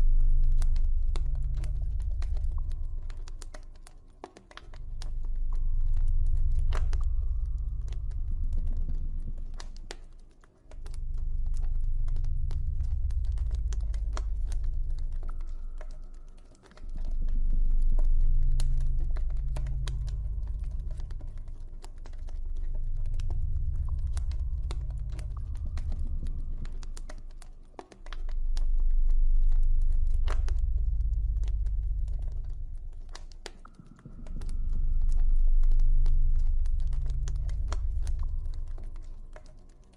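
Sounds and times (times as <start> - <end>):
deep low ambient drone: 0.0 - 39.9.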